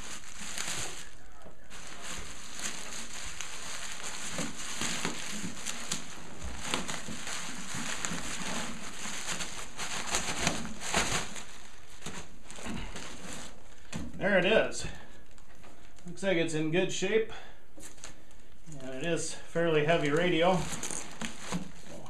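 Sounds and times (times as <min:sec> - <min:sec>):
bubble wrap crackles: 0:00.0 - 0:16.2, 0:17.8 - 0:22.0
bubble wrap crinkling: 0:00.0 - 0:16.2, 0:17.8 - 0:22.0.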